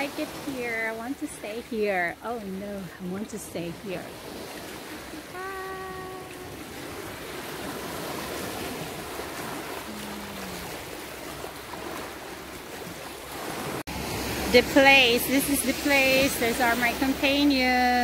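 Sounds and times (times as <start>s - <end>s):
small waves washing on sand: 0.0s - 18.0s.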